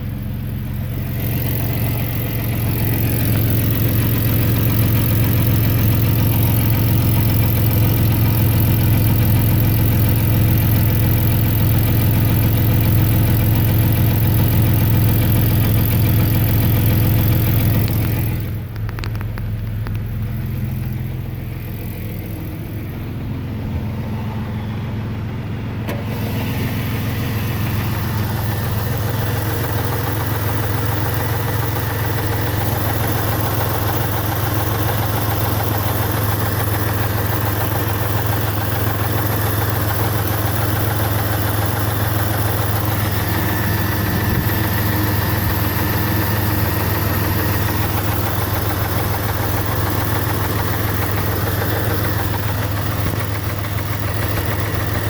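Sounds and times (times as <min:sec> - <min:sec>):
engine idling with ticking: 0:00.0 - 0:55.0.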